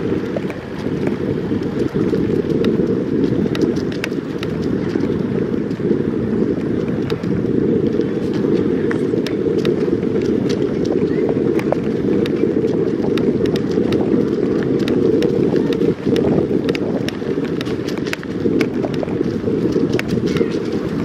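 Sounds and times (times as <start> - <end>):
bicycle tyres rolling on tarmac: 0.0 - 21.0
wind buffeting microphone: 0.0 - 21.0.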